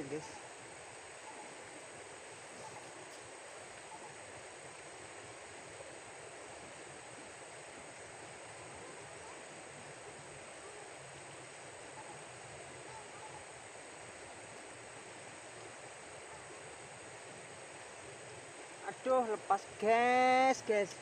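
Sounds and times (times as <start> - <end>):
river rushing over riffles: 0.0 - 21.0.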